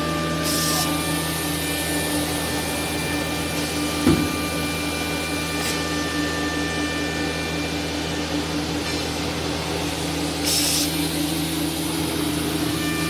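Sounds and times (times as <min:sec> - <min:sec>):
cnc router machine hum: 0:00.0 - 0:13.0.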